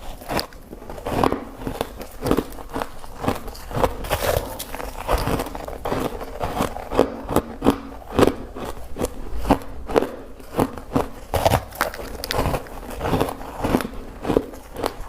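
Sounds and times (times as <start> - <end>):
ice crunching between teeth: 0.0 - 15.0.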